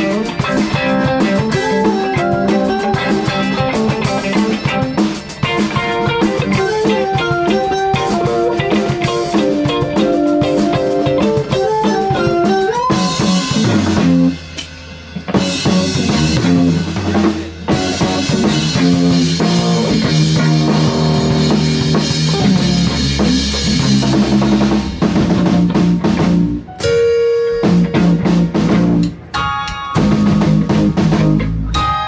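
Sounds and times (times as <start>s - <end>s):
drums and cymbals: 0.0s - 32.0s
electric guitar melody: 0.0s - 32.0s
live rock band playing: 0.0s - 32.0s.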